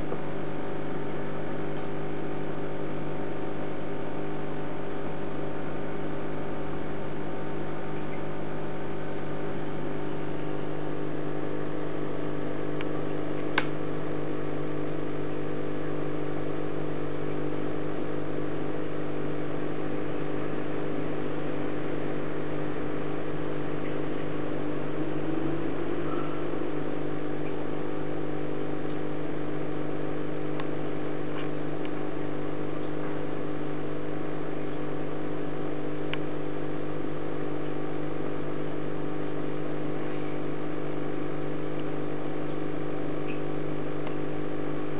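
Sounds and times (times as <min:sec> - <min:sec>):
aquarium pump humming: 0:00.0 - 0:44.9.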